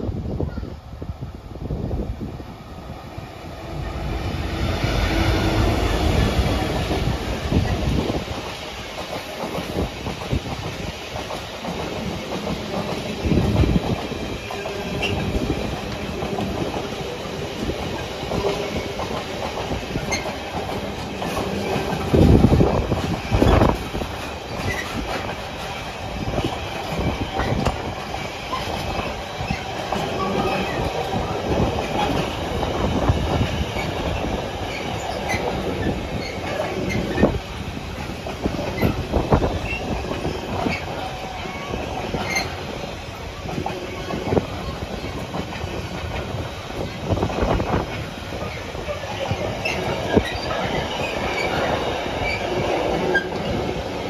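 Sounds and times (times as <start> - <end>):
train wheels clattering over rail joints: 4.4 - 54.0.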